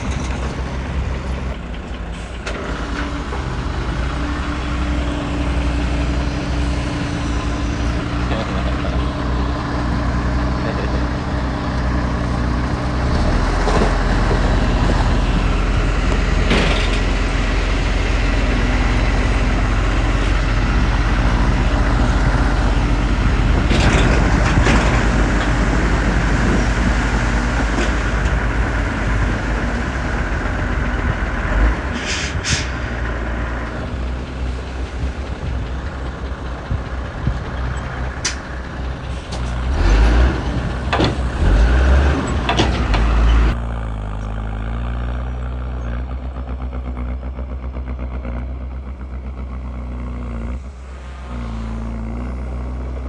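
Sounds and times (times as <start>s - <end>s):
diesel engines running under load: 0.0s - 53.0s.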